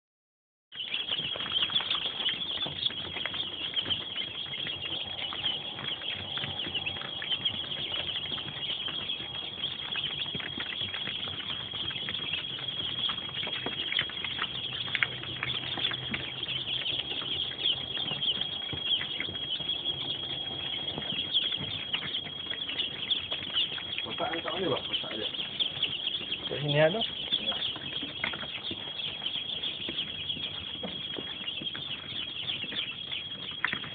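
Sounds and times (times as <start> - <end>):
chicks peeping: 0.7 - 33.9.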